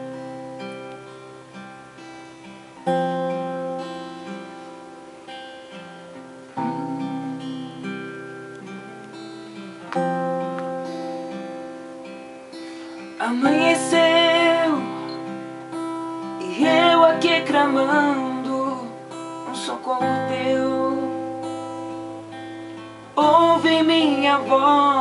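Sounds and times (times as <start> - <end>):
acoustic guitar playing a hymn: 0.0 - 25.0.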